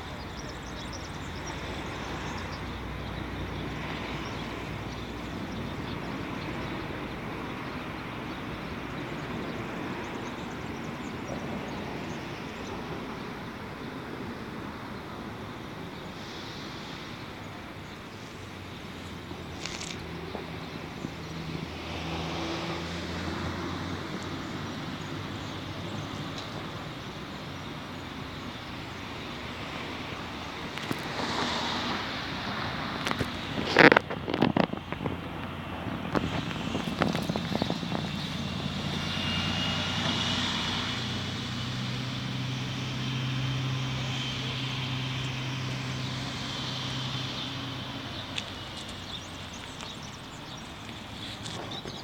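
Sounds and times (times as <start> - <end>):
city road traffic: 0.0 - 52.0.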